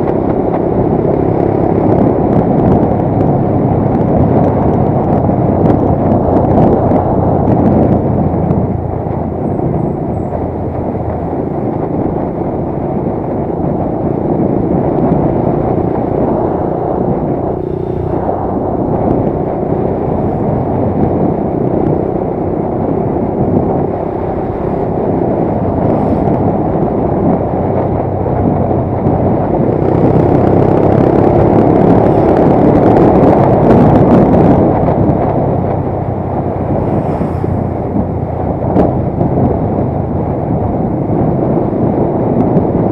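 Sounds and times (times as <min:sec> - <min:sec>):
motorcycle engine hum: 0:00.0 - 0:42.9
road and wind noise: 0:00.0 - 0:42.9.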